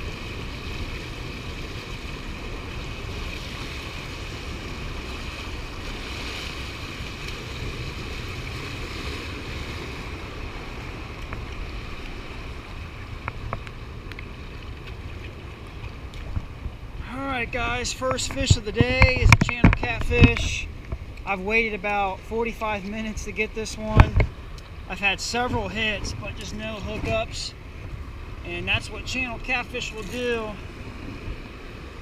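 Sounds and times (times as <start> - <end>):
river water rushing: 0.0 - 21.4, 22.7 - 32.0
wind buffeting microphone: 0.0 - 21.4, 23.4 - 29.6.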